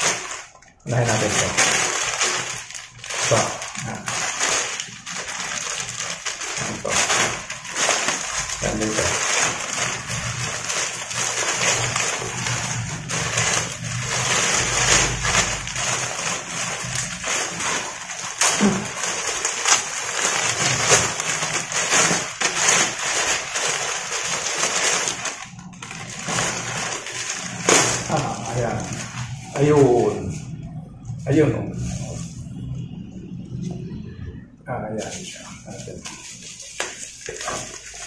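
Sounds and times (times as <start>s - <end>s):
plastic mailer bag crinkling: 0.0s - 30.6s, 35.0s - 38.0s.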